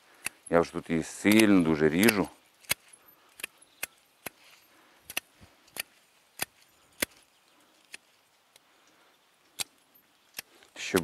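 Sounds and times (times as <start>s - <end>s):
pruning shears snipping twigs: 0.1s - 8.7s, 9.5s - 11.0s.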